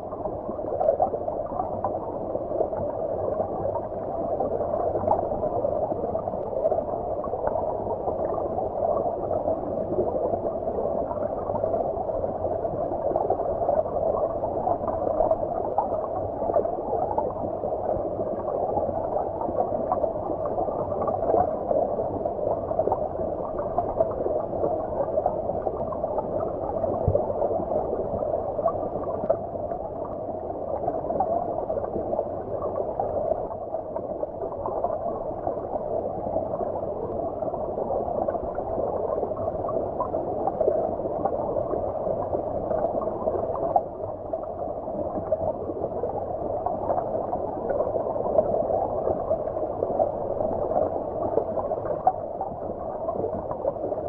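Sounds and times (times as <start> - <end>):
muffled stream water rushing: 0.0 - 54.0.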